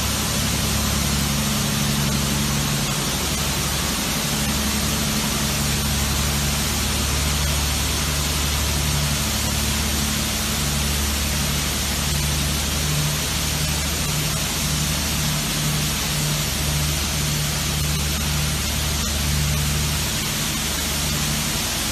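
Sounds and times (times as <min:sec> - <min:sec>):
low machine hum: 0:00.0 - 0:21.9
low pulsing tone: 0:00.0 - 0:21.9.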